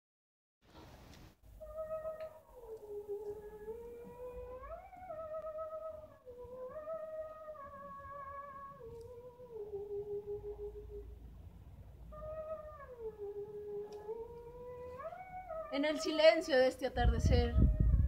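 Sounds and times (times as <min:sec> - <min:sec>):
slow wordless melody: 0:01.4 - 0:18.0.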